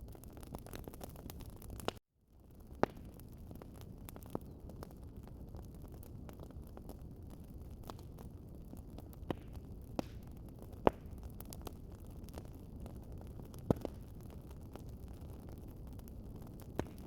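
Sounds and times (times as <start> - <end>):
fire popping: 0.0 - 17.0
fireplace burning rumble: 0.0 - 17.0.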